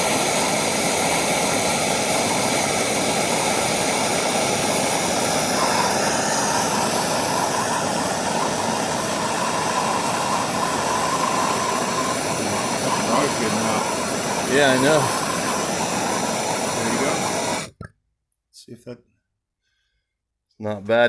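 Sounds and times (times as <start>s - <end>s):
gas torch burning: 0.0s - 17.9s.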